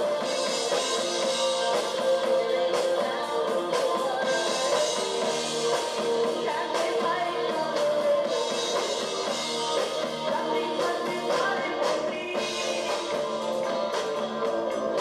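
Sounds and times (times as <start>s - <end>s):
drum kit beats: 0.0s - 15.0s
live rock band playing: 0.0s - 15.0s.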